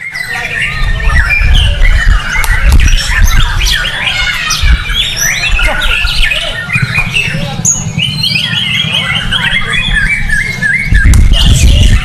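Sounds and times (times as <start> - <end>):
bird singing rapid varied song: 0.0 - 12.0
steady low rumble: 0.8 - 12.0.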